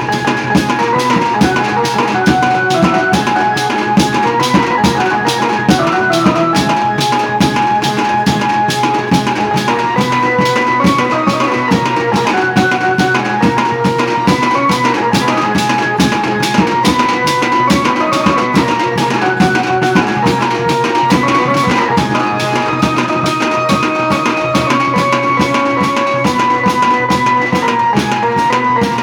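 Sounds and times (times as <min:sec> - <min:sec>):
keyed banjo melody: 0:00.0 - 0:29.0
steady drumming: 0:00.0 - 0:29.0.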